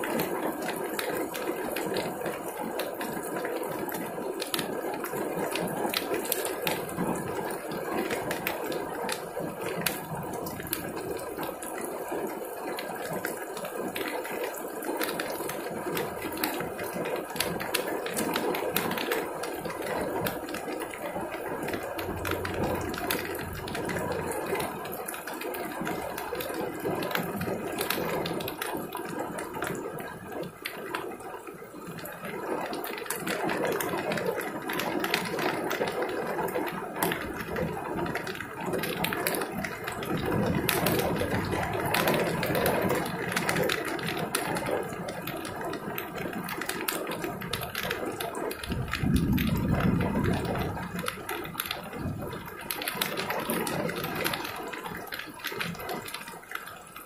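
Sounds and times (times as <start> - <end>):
heavy rain on pavement: 0.0 - 57.0.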